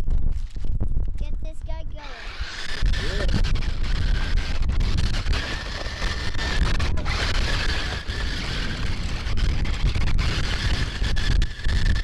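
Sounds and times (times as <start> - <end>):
wind on microphone: 0.0 - 12.0
rc truck motor whine: 2.0 - 12.0.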